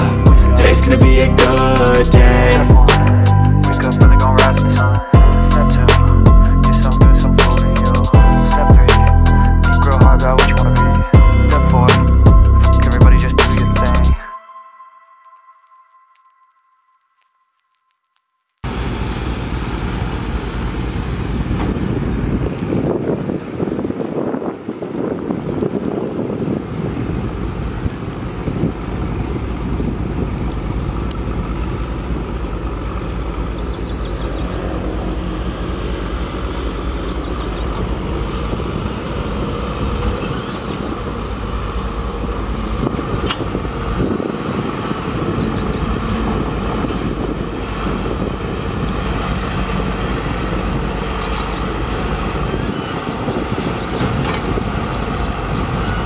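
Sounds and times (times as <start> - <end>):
heavy diesel machinery rumbling: 0.0 - 14.2, 18.7 - 56.0.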